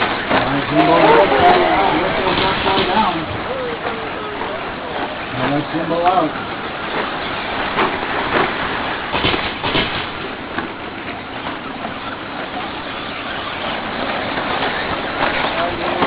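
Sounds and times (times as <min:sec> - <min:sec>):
electric motor and tyre noise: 0:00.0 - 0:16.0.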